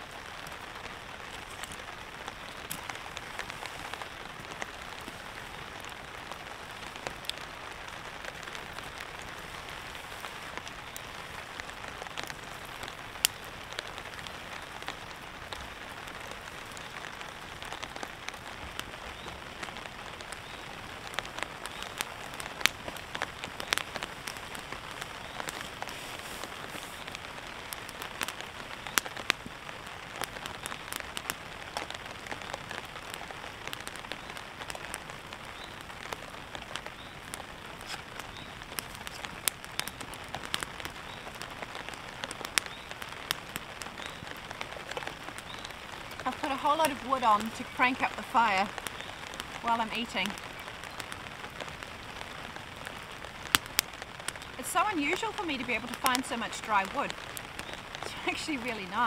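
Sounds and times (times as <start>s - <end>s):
rain falling on a tarp: 0.0s - 59.0s.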